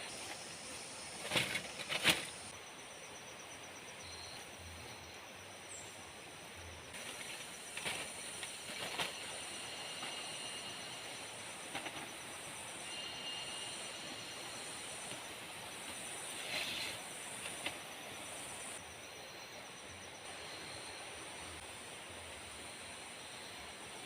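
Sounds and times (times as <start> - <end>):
pulsing insect trill: 0.0 - 21.8
forest hiss: 0.0 - 24.0.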